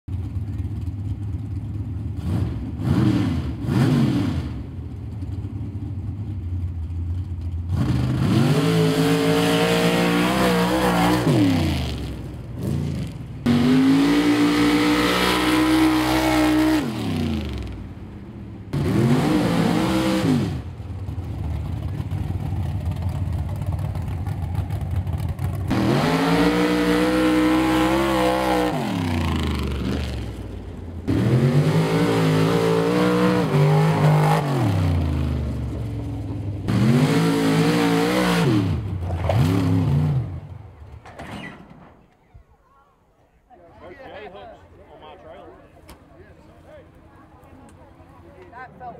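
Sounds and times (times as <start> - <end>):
pickup truck engines revving: 0.1 - 42.0.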